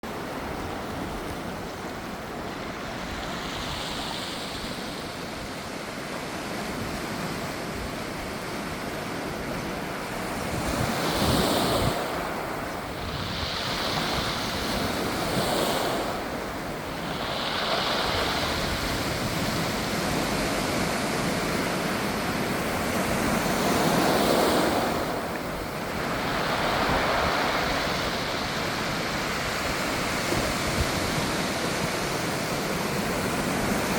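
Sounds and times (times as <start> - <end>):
waves washing on pebble shore: 0.2 - 33.9.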